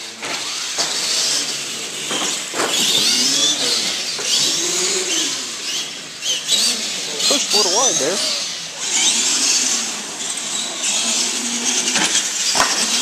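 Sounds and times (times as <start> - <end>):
toy truck motors whining: 0.0 - 13.0.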